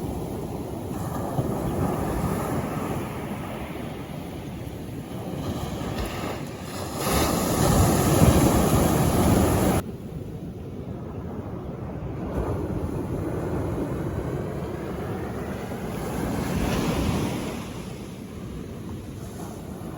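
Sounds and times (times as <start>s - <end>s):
sea waves washing ashore: 0.0s - 19.9s
wind buffeting microphone: 0.0s - 19.9s.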